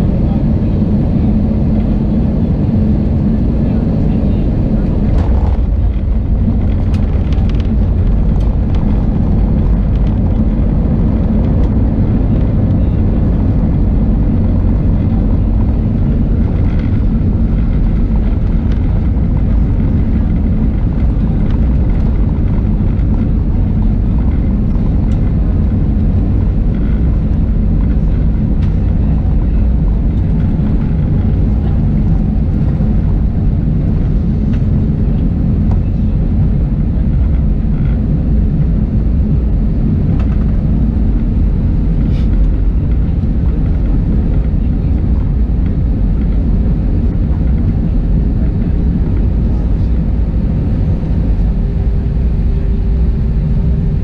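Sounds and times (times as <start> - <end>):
aircraft cabin rumble while taxiing: 0.0 - 54.0
jet engines running: 0.0 - 54.0
wheels rolling over taxiway: 3.6 - 54.0.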